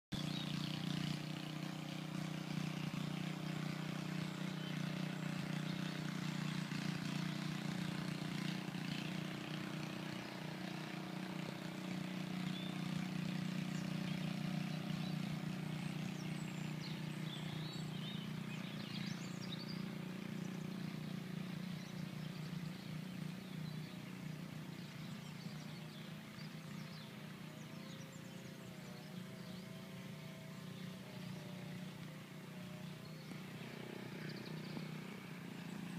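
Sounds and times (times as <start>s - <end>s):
low outdoor hum: 0.2s - 35.9s.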